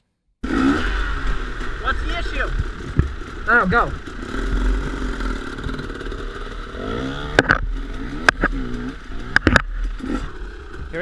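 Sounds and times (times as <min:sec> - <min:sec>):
dirt bike engine running: 0:00.4 - 0:11.0
dirt bike revving: 0:00.4 - 0:11.0.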